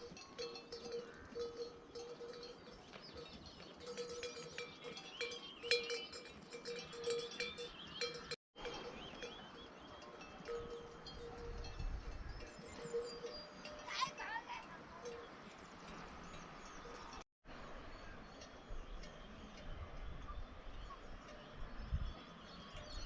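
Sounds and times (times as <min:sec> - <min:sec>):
livestock bells clanking: 0:00.0 - 0:17.2, 0:18.3 - 0:23.0.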